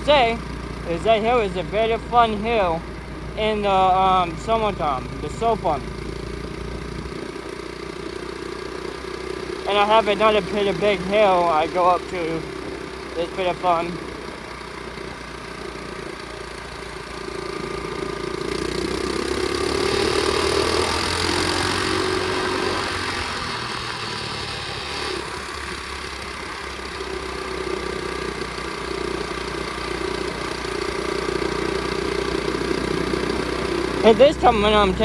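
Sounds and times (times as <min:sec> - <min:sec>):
pit bike engine running: 0:00.0 - 0:35.0.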